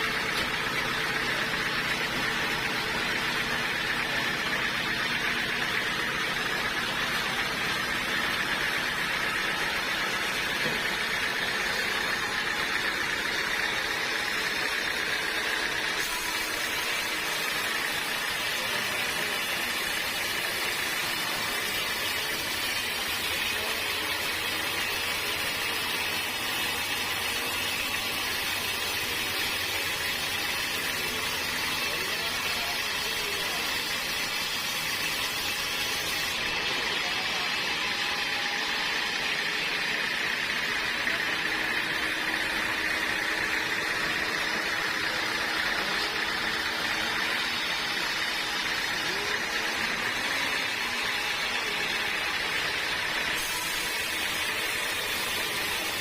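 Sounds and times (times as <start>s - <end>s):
band sawmill droning: 0.0s - 56.0s.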